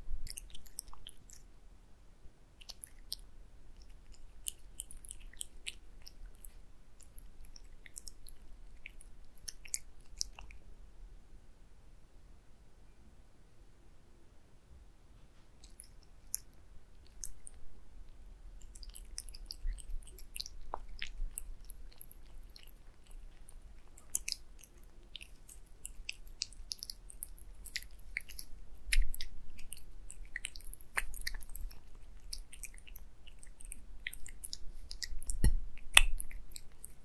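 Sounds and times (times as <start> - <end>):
cat eating wet food: 0.2 - 1.5, 2.6 - 10.6, 15.5 - 17.6, 18.4 - 37.0.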